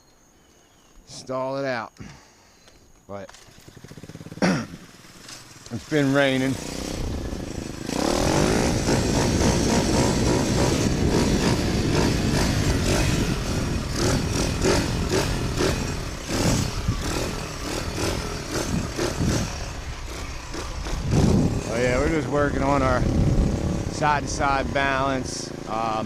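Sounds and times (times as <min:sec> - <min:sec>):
motorbike engine revving: 0:03.3 - 0:26.0.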